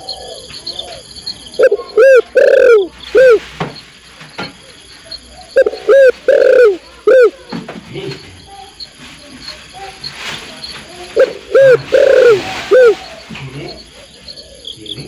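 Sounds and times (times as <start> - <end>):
dove cooing: 0.0 - 3.4, 4.6 - 8.2, 9.4 - 15.0.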